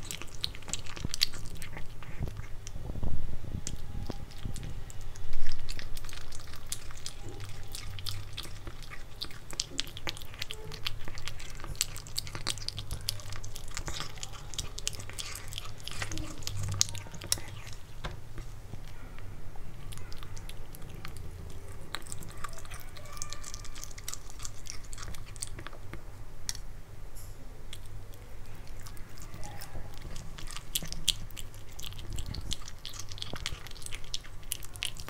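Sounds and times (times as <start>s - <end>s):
kitten chewing meat: 0.0s - 26.7s, 27.7s - 35.0s.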